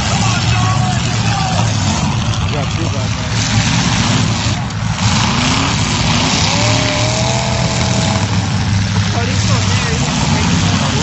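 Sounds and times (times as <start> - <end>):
car engines revving loudly: 0.0 - 11.0.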